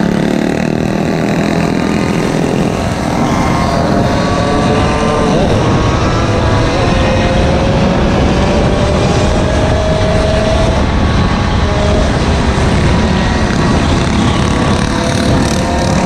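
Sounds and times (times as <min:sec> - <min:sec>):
small gas engine running: 0:00.0 - 0:16.0
wind rumble on microphone: 0:00.0 - 0:16.0.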